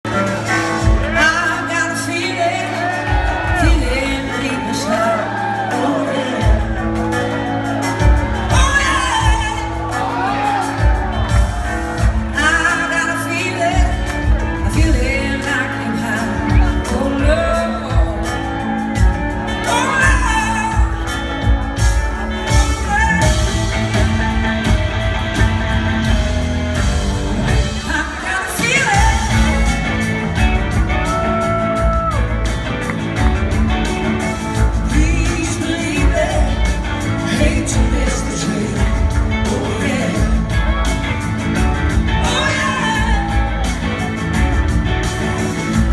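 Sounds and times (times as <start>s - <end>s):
lead vocals: 0.0s - 45.9s
live rock band playing: 0.0s - 45.9s.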